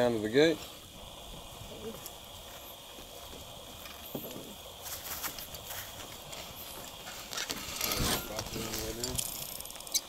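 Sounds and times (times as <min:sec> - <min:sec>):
steady high hiss: 0:00.0 - 0:10.0.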